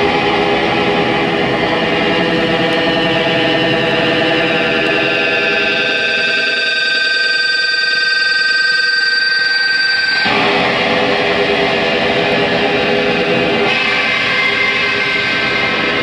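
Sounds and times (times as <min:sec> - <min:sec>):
dense noisy guitar wash: 0:00.0 - 0:07.0, 0:10.0 - 0:16.0
electric guitar droning tone: 0:00.0 - 0:07.1, 0:10.0 - 0:16.0.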